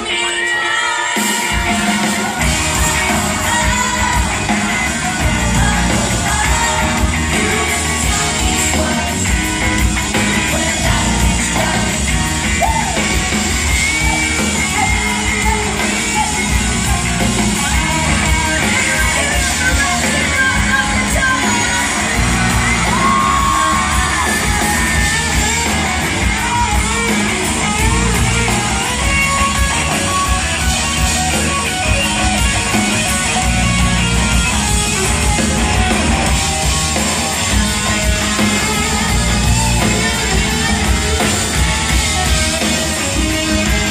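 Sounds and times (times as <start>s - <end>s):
audience yelling: 0.0s - 43.9s
live pop-rock band playing: 0.0s - 43.9s.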